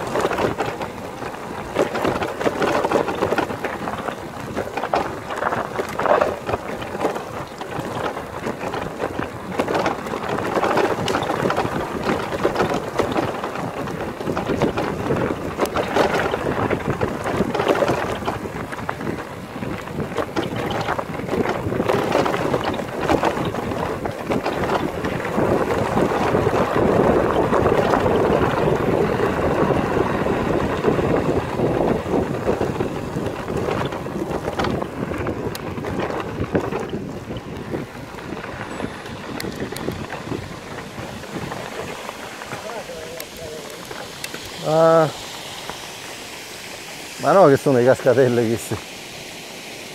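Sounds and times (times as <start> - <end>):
bike knocks and rattles: 0.0 - 45.2
bike tyres crunching on gravel: 0.0 - 49.5
wind buffeting microphone: 0.0 - 49.9.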